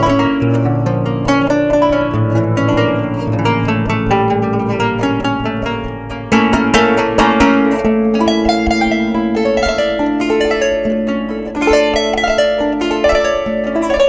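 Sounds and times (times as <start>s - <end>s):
plucked zither melody: 0.0s - 14.0s.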